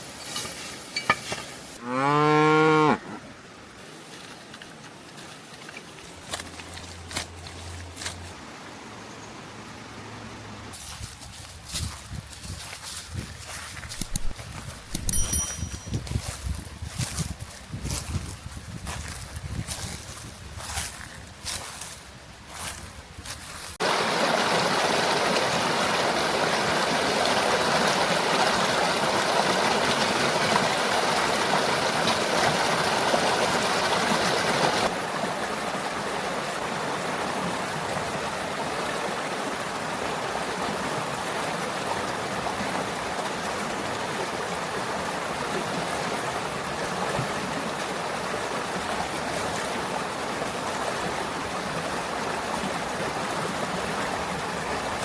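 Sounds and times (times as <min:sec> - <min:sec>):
running water: 0:10.5 - 0:55.0.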